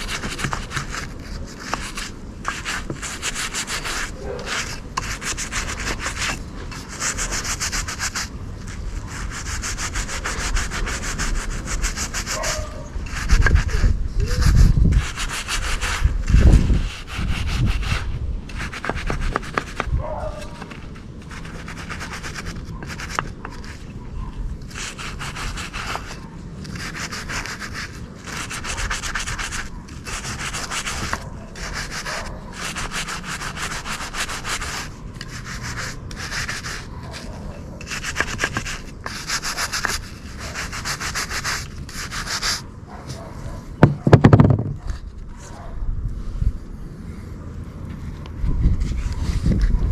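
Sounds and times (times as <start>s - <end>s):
scrubbing on metal: 0.0s - 42.6s.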